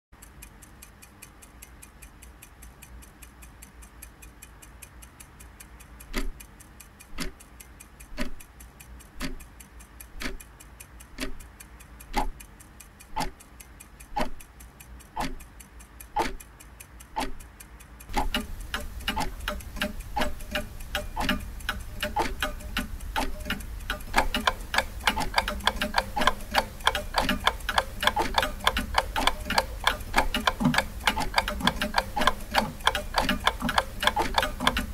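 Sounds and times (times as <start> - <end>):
clock ticking: 0.1 - 34.9.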